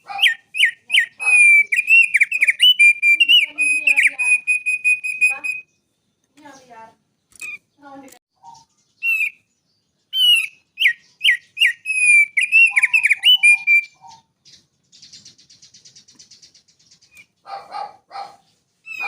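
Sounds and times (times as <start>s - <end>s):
bird whistling song: 0.0s - 6.6s, 7.3s - 7.8s, 8.4s - 17.6s
dry ticking bird trill: 0.0s - 17.8s.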